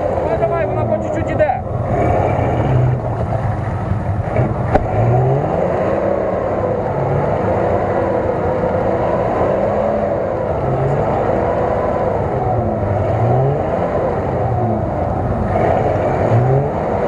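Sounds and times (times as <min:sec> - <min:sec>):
engine revving under load: 0:00.0 - 0:17.0
wheels churning mud: 0:00.0 - 0:17.0.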